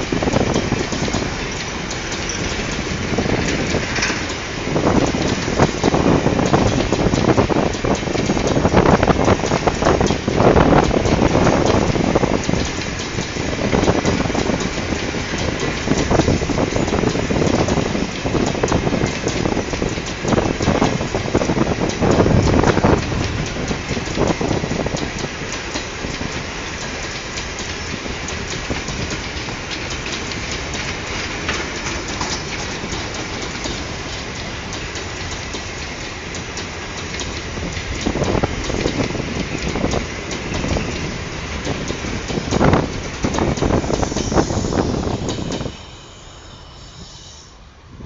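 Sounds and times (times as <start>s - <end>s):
wheels knocking over rail joints: 0.0s - 45.7s
steel wheels rumbling on rail: 0.0s - 48.0s.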